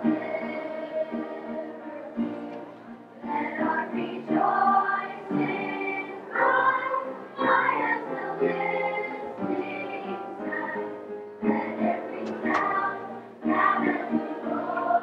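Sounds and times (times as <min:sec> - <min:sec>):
school chorus singing: 0:00.0 - 0:15.0.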